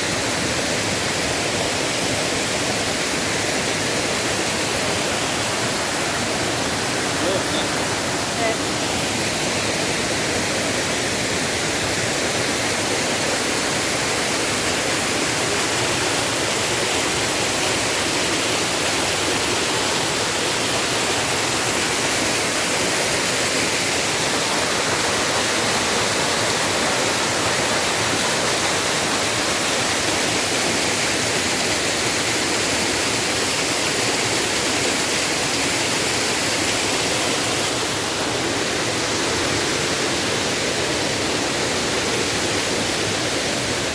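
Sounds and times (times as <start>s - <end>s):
waterfall rushing loudly: 0.0s - 43.9s.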